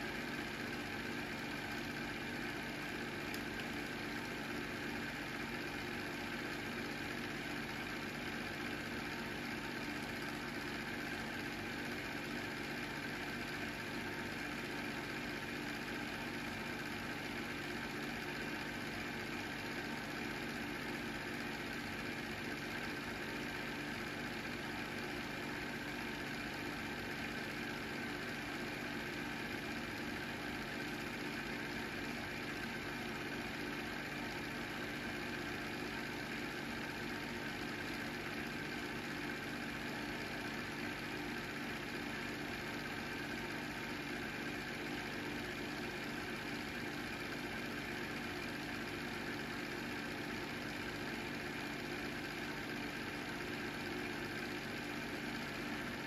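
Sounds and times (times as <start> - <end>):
film projector motor hum: 0.0 - 56.0.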